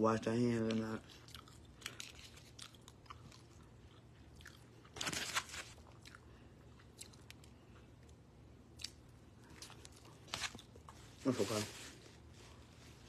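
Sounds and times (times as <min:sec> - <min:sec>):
person chewing sandwich: 0:00.6 - 0:11.2.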